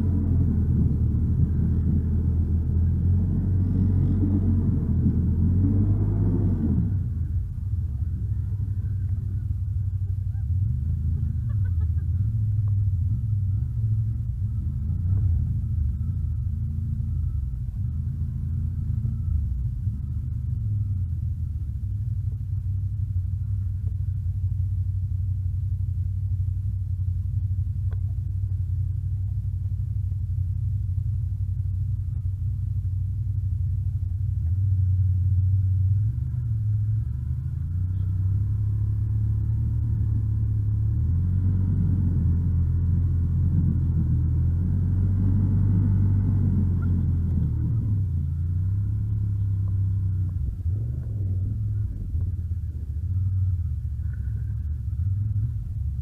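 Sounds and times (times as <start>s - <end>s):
atv engine droning: 0.0s - 56.0s.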